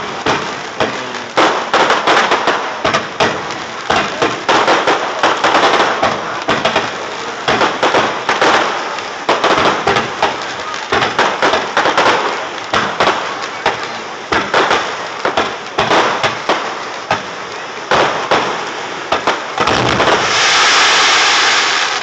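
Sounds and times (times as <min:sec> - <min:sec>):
firework shell bursts and pops: 0:00.0 - 0:22.0
fireworks crackling hiss: 0:00.0 - 0:22.0.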